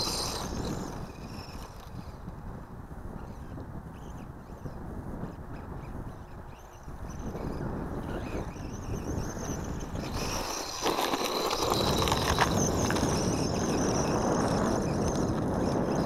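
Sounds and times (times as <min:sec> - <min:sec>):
high motor whine: 0:00.0 - 0:16.0
toy car driving over gravel: 0:00.0 - 0:16.0
wind rumbling on microphone: 0:00.0 - 0:16.0.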